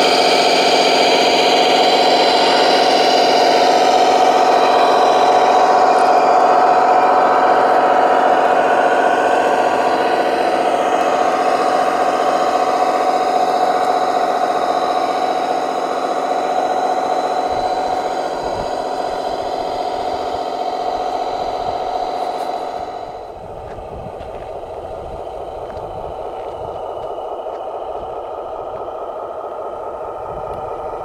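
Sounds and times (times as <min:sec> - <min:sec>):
toy truck mechanical hum: 0:00.0 - 0:31.0.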